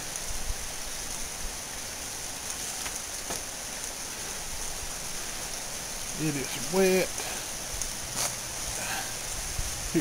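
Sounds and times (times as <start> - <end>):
faint drips and ticks: 0.0 - 10.0
heavy rain hiss: 0.0 - 10.0.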